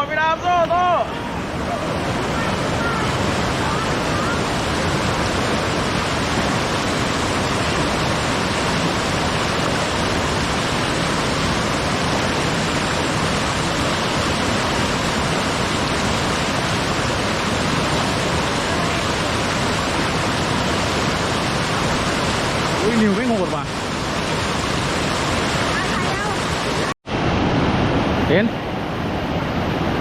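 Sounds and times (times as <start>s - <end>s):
white water rushing: 0.0s - 30.0s.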